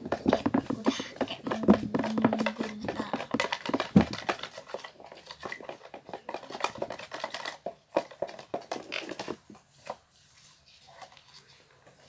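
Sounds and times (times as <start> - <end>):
stirrer tapping and scraping: 0.0 - 12.0.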